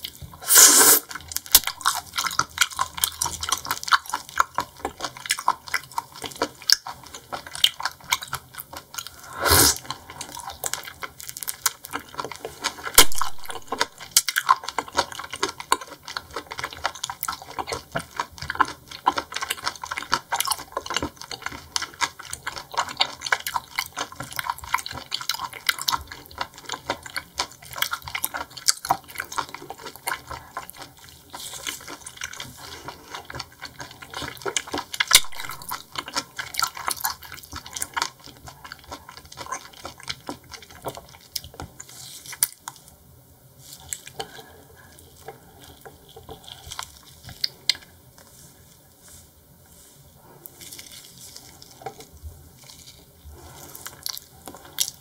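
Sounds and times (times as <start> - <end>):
wet chewing: 0.0 - 43.0, 43.6 - 55.0.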